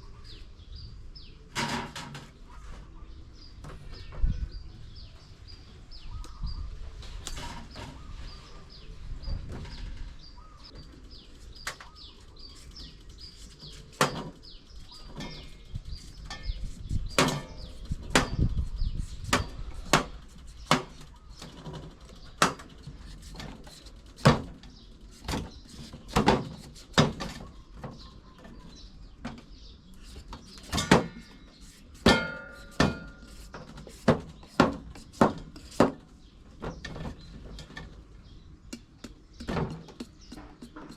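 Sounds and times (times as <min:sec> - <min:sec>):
faint birds chirping: 0:00.0 - 0:40.9.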